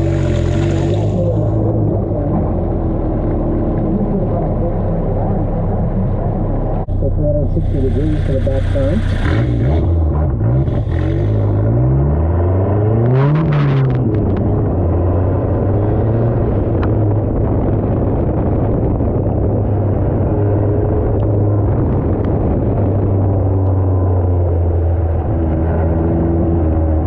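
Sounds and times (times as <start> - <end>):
truck engine and exhaust: 0.0 - 27.0.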